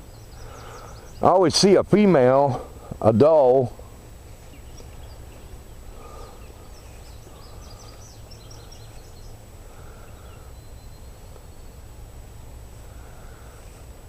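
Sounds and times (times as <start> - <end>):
low background rumble: 0.0 - 14.0
small birds chirping: 0.0 - 14.0.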